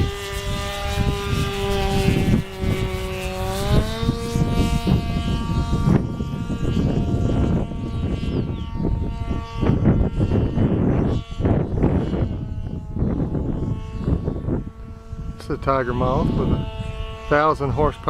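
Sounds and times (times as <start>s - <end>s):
model airplane engine buzzing: 0.0s - 18.0s.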